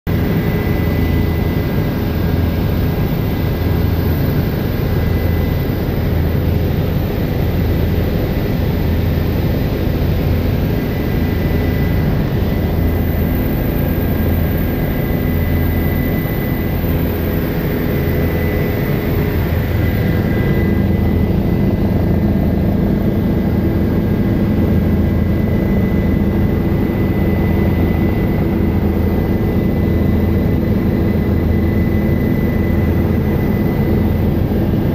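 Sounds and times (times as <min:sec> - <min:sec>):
helicopter engine and rotor: 0:00.1 - 0:34.9
high turbine whine: 0:00.1 - 0:34.9.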